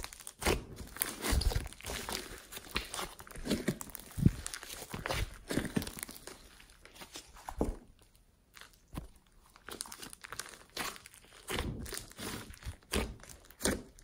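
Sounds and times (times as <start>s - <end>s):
slime crackling and popping: 0.0s - 6.9s, 8.5s - 14.0s.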